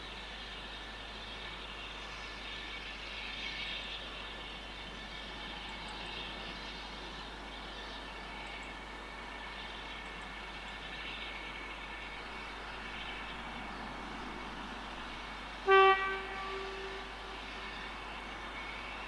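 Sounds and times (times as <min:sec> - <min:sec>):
steam hissing from locomotive: 0:00.0 - 0:19.0.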